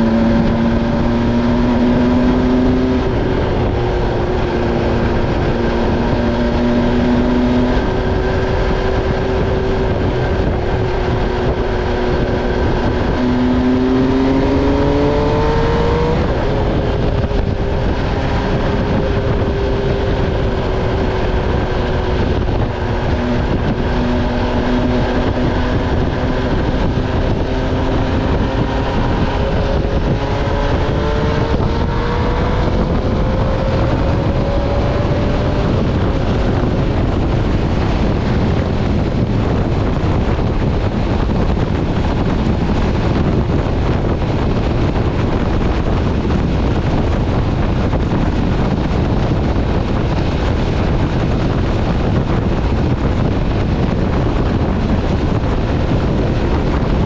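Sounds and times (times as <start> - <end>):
motorcycle engine: 0.0 - 57.0
wind and road rush: 0.0 - 57.0.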